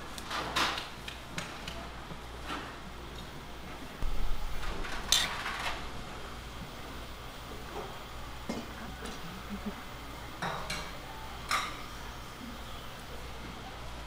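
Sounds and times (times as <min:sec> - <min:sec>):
steady low hum: 0:01.8 - 0:14.0.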